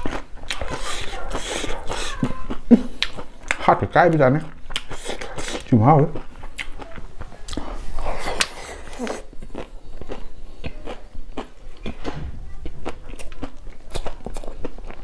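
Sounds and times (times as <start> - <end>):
close chewing with mouth clicks: 0.0 - 3.7, 4.4 - 15.0.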